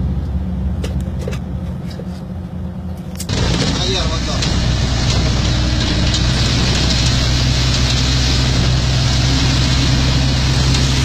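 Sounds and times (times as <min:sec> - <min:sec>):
heavy vehicle engines droning: 0:00.0 - 0:11.0
tyres on dirt road: 0:00.0 - 0:11.0.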